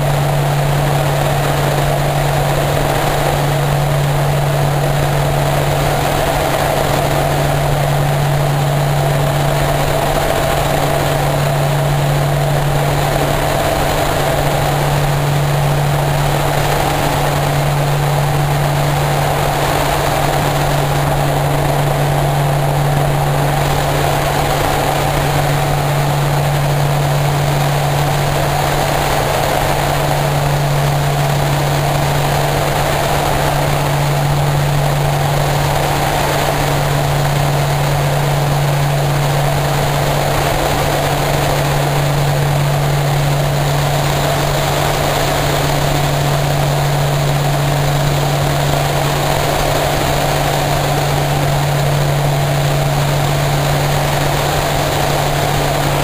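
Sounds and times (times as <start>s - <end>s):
rushing noise: 0.0s - 56.0s
turboprop engines droning: 0.0s - 56.0s.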